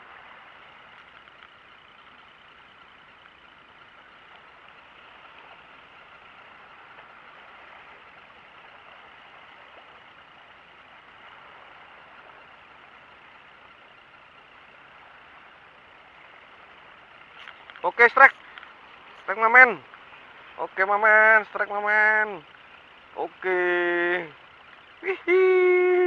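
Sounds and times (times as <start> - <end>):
faint engine hum: 0.0 - 26.0.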